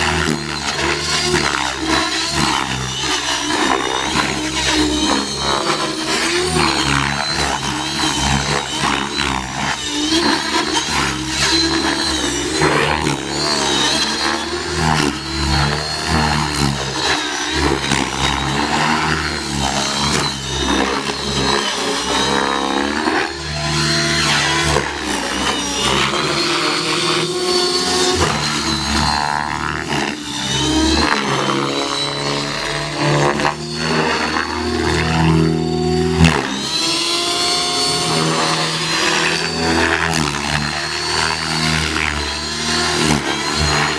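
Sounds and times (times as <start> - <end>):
high whine: 0.0 - 43.9
model helicopter motor and rotors: 0.0 - 43.9.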